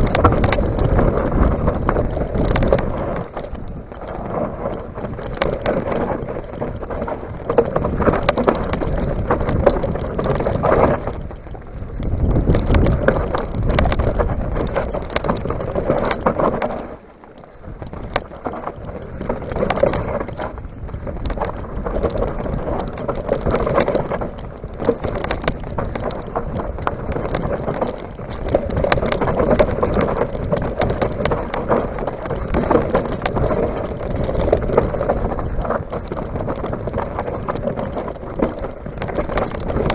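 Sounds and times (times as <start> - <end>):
bike rattling and clattering: 0.0 - 39.9
bike tyres crunching on gravel: 0.0 - 39.9
wind on microphone: 0.0 - 39.9.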